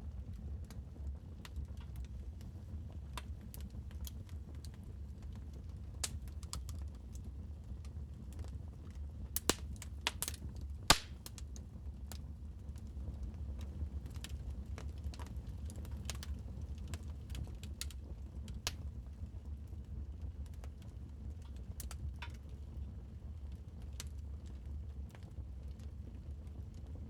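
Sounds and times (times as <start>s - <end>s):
wood fire crackling and popping: 0.0s - 26.8s.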